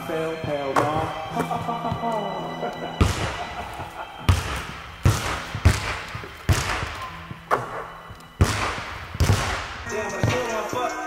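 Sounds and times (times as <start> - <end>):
basketballs bouncing on wooden floor: 0.0 - 10.9.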